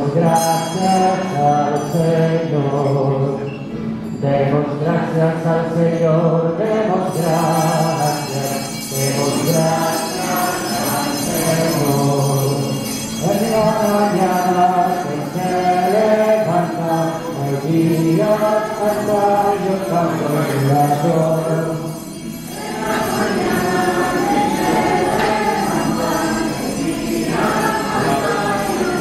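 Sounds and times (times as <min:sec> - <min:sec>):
voices singing a hymn: 0:00.0 - 0:29.0.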